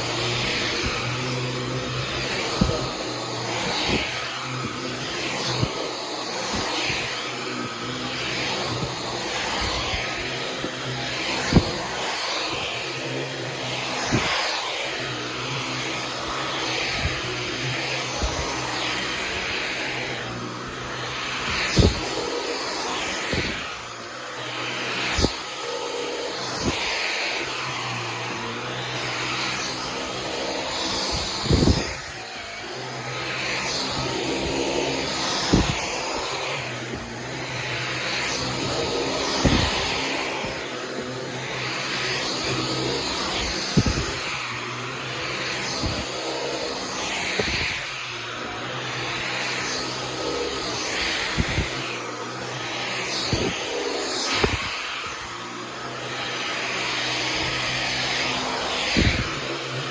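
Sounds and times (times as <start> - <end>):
vacuum cleaner on carpet: 0.0 - 59.9.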